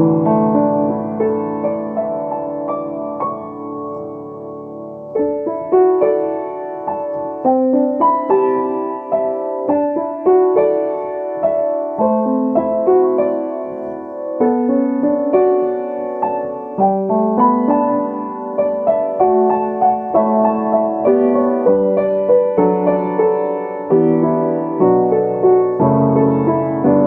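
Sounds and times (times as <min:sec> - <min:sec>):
solo piano: 0:00.0 - 0:27.0.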